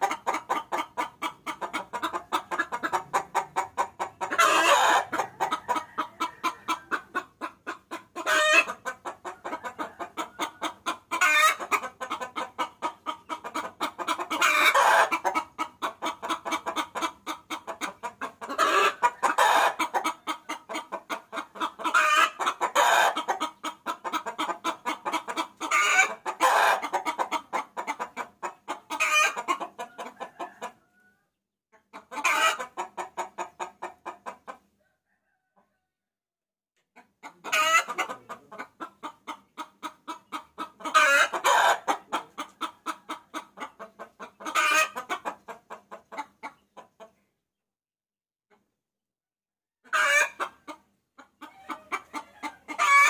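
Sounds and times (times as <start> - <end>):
hen cackling: 0.0 - 31.1, 31.8 - 34.6, 37.0 - 46.6, 49.8 - 53.0.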